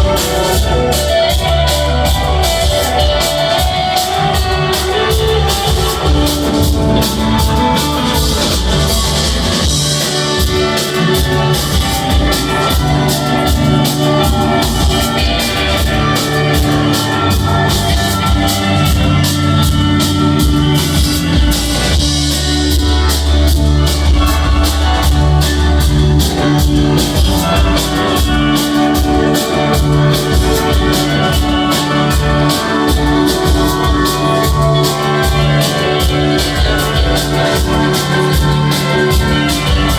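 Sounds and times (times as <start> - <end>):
cymbals keeping a beat: 0.0 - 39.9
rock band playing: 0.0 - 39.9.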